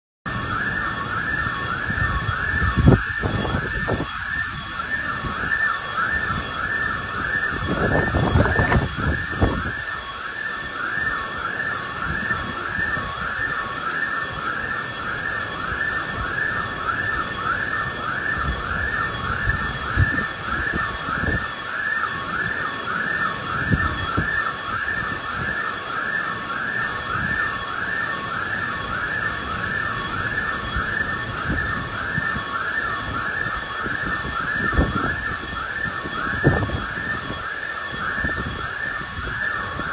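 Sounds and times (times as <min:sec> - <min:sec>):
electronic siren wailing: 0:00.3 - 0:39.9
torrential rain on street: 0:00.3 - 0:39.9.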